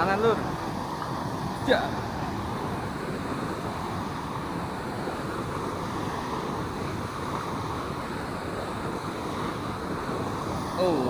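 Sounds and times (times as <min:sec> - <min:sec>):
water rushing through sluice gate: 0:00.0 - 0:11.0.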